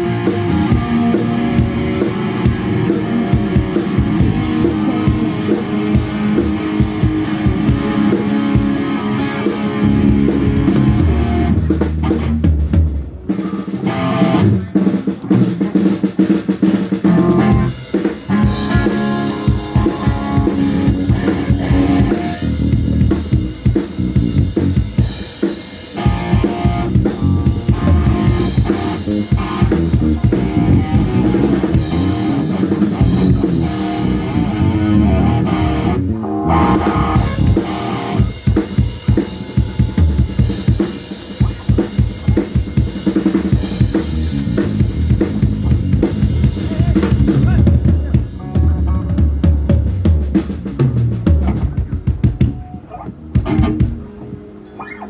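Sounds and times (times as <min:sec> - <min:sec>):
drum kit: 0:00.0 - 0:55.0
electric guitar: 0:00.0 - 0:55.0
live rock band playing: 0:00.0 - 0:55.0.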